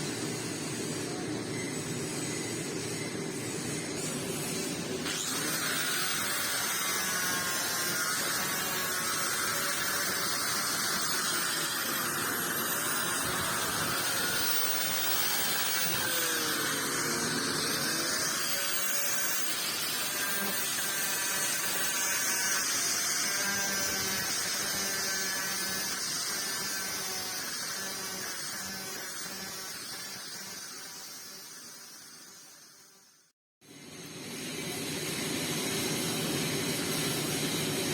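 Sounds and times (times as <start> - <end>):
welding arc buzzing and hissing: 0.0 - 37.9.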